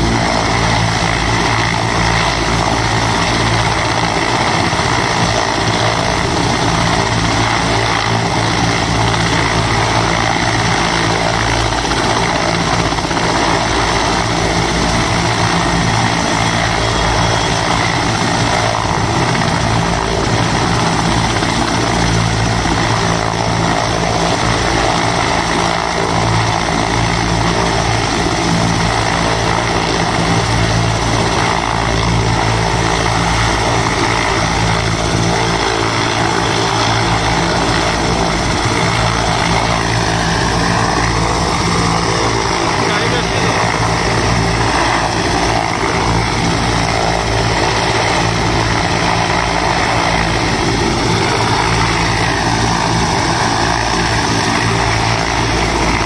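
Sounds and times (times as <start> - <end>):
helicopter engines and rotors roaring: 0.0 - 56.0.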